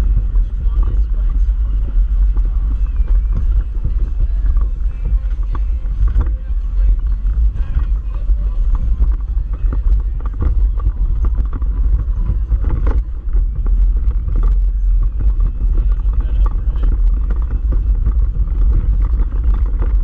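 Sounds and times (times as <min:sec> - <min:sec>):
off-road vehicle rumbling: 0:00.0 - 0:20.0
vehicle knocking and rattling: 0:00.0 - 0:20.0.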